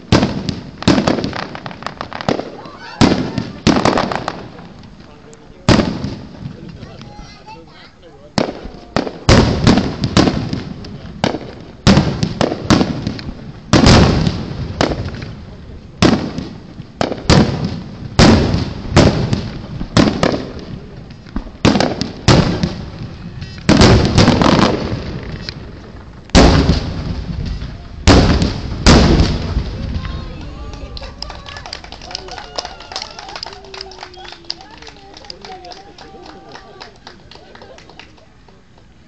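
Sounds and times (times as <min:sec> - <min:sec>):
fireworks booming bangs: 0:00.0 - 0:36.8
fireworks crackling: 0:00.0 - 0:39.0.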